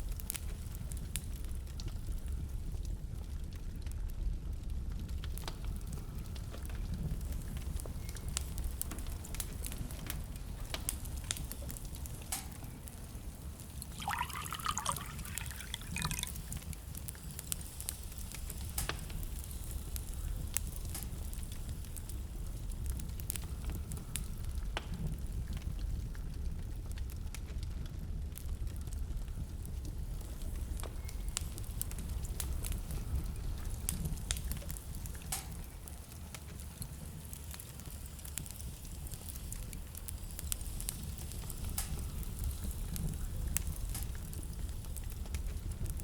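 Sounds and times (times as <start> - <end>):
low fire rumble: 0.0 - 46.0
wood fire crackling and popping: 0.0 - 46.0.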